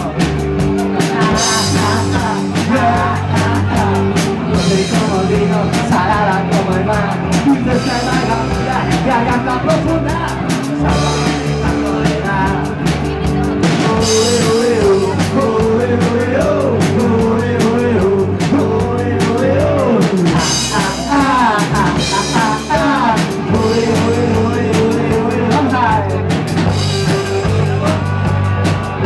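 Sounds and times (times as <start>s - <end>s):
drum kit with cymbals: 0.0s - 29.0s
electric bass: 0.0s - 29.0s
electric guitar: 0.0s - 29.0s
man singing: 0.0s - 29.0s.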